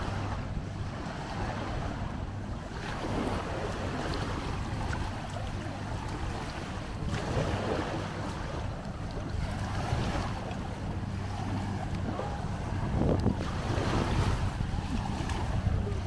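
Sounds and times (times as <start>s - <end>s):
low steady hum: 0.0s - 16.0s
waves washing on sandy shore: 0.0s - 16.0s
wind on microphone: 0.0s - 16.0s.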